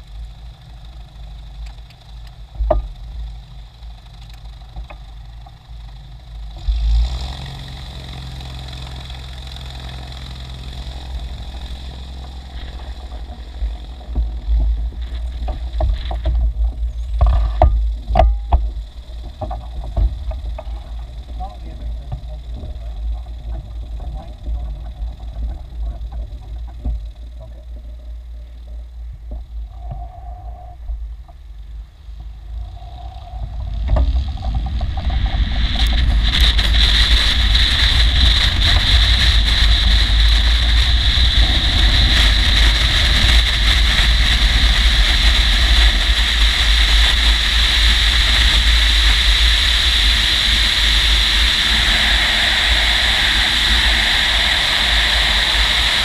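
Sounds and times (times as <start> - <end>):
wind rush and wheel rumble: 0.0 - 56.0.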